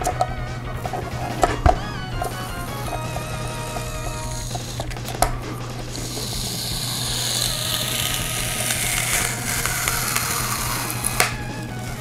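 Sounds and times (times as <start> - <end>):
card scraping against plastic: 0.8 - 12.0.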